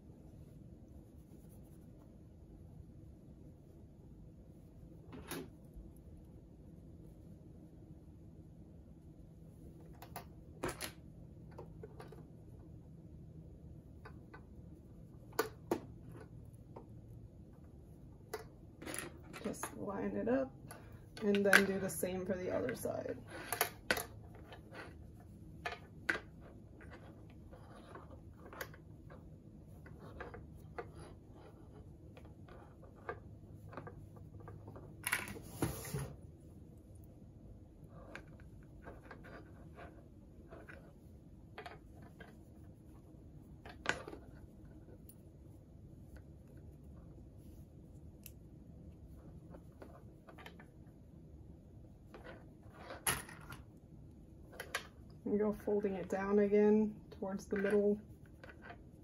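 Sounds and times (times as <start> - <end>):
low room hum: 0.0 - 59.0.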